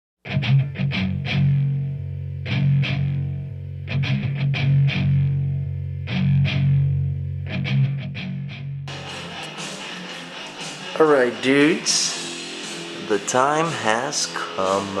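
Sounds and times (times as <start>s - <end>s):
strummed guitar chords: 0.3s - 15.0s.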